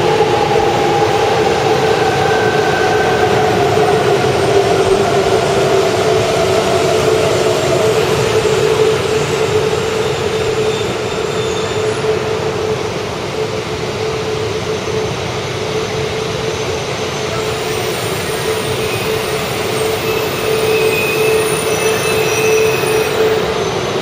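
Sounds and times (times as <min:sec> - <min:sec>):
train running rumble with whine: 0:00.0 - 0:24.0.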